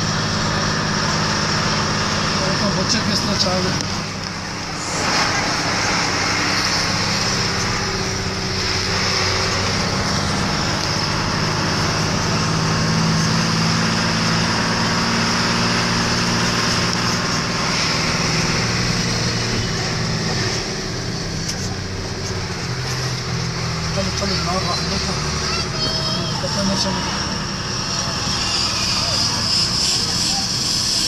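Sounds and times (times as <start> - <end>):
vehicle engine hum: 0.0 - 31.0.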